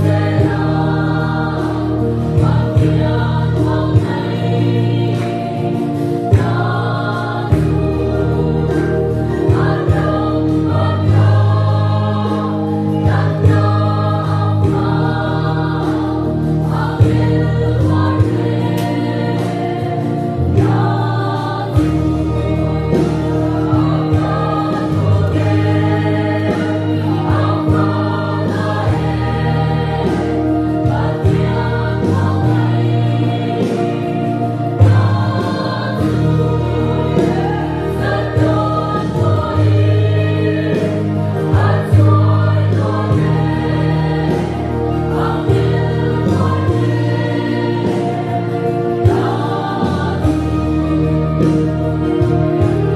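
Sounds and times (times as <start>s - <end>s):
mixed choir singing a hymn: 0.0s - 52.9s.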